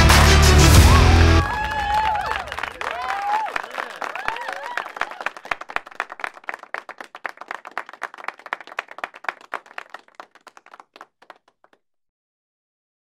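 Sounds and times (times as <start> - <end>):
people clapping: 0.0 - 11.8.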